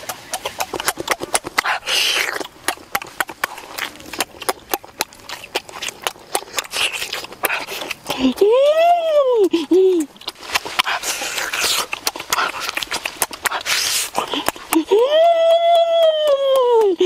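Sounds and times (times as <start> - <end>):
noisy bite: 0.0 - 16.9
wet chewing and smacking: 0.0 - 17.0.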